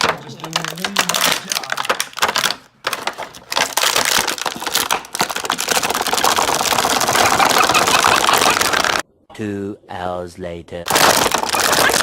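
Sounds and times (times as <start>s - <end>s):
plastic packaging crackling: 0.0s - 9.0s, 10.9s - 12.0s.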